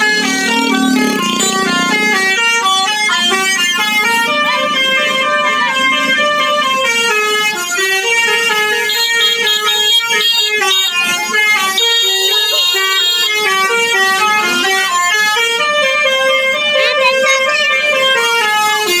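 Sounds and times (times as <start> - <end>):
multi-tone air horn tune: 0.0 - 19.0.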